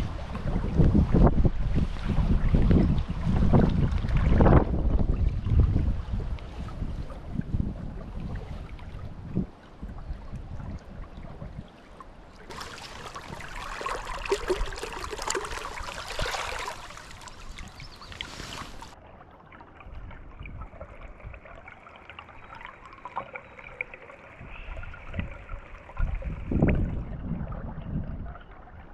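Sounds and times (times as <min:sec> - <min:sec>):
wind rumbling on microphone: 0:00.0 - 0:19.0, 0:19.8 - 0:21.7, 0:24.3 - 0:28.9
river water trickling and splashing: 0:00.0 - 0:28.9.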